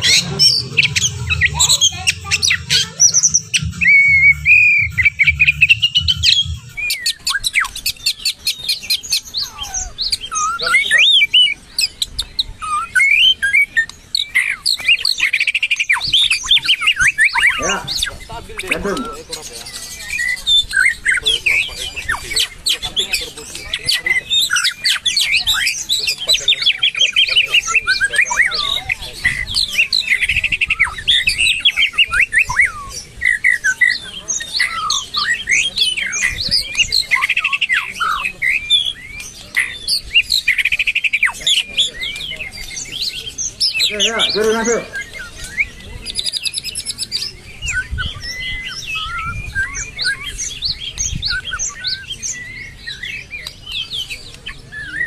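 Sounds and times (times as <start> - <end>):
birds singing whistled phrases: 0.0 - 55.0.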